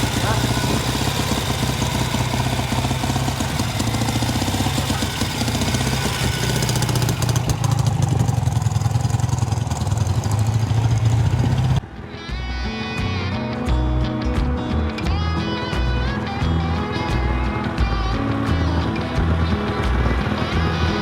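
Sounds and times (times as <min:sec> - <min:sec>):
motorcycle engine running: 0:00.0 - 0:11.9, 0:15.5 - 0:21.0.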